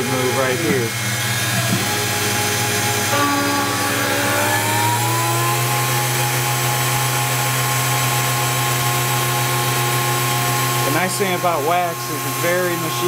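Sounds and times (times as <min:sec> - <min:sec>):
milling machine motor whine: 0:00.0 - 0:13.0.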